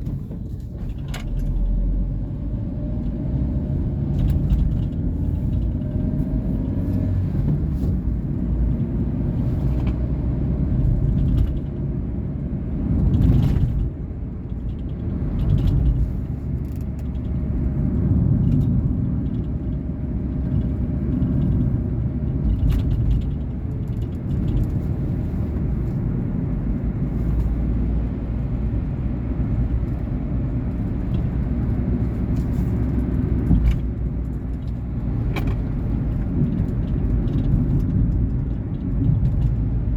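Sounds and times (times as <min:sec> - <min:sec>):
car engine driving: 0:00.0 - 0:39.9
road rumble: 0:00.0 - 0:39.9.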